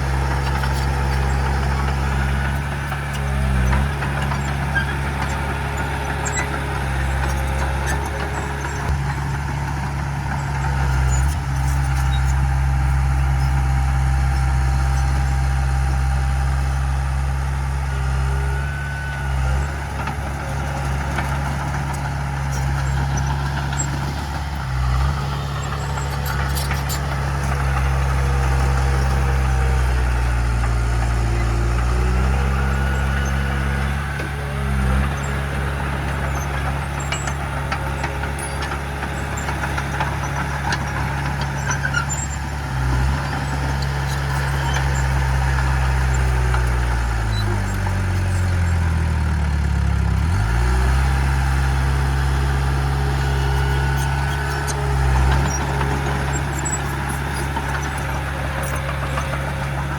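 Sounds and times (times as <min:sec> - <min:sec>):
large diesel engine running: 0:00.0 - 0:59.9.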